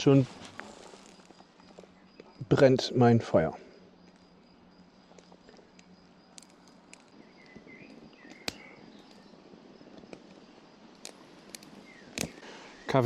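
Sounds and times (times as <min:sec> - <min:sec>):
fire popping: 0:00.0 - 0:02.4, 0:03.8 - 0:13.0
wood fire crackling: 0:00.0 - 0:13.0.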